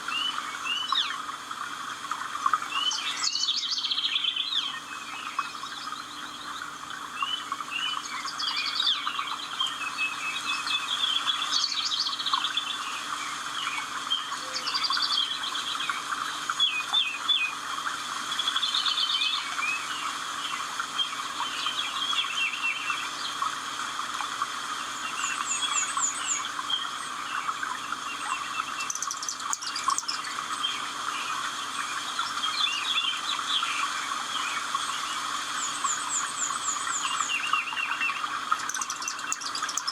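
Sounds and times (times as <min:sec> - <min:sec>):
birds singing: 0:00.0 - 0:01.4, 0:02.2 - 0:39.9.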